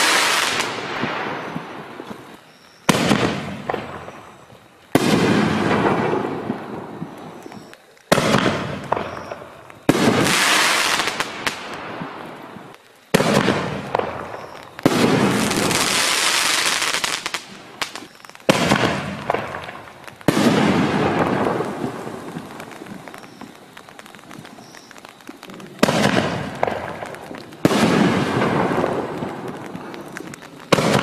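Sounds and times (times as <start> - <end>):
firework hiss: 0.0 - 31.0.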